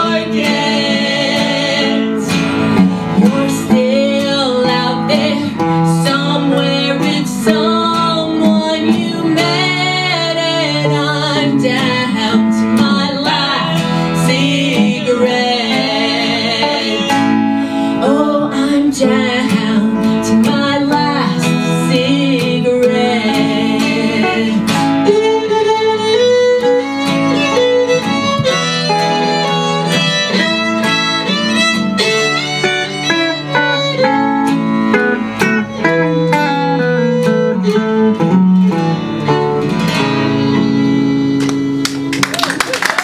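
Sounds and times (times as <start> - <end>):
fiddle lead line: 0.0 - 42.1
string band playing: 0.0 - 42.3.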